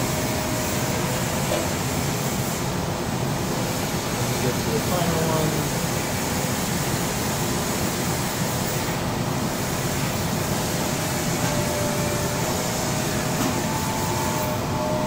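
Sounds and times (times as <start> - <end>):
welding equipment whirring hiss: 0.0 - 15.0.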